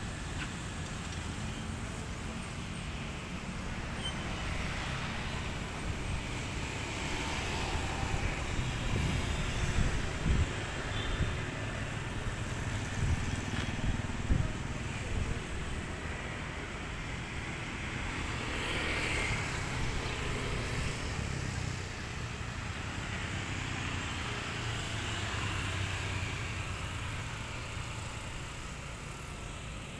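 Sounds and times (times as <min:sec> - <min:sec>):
cars and motorcycles passing: 0:00.0 - 0:29.9.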